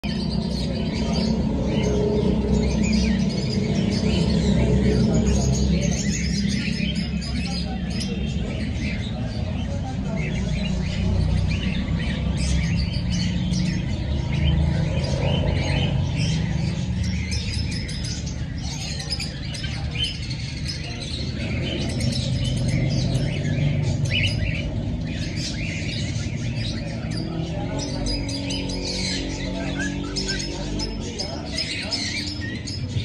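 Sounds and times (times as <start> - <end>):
parrots chirping and squawking: 0.0 - 33.0.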